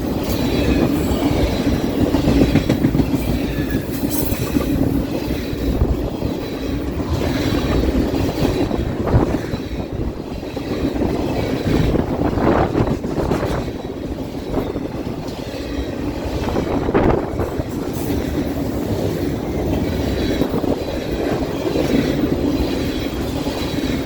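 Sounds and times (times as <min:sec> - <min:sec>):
train wheels clattering on rails: 0:00.0 - 0:24.0
wind buffeting microphone: 0:00.0 - 0:24.0.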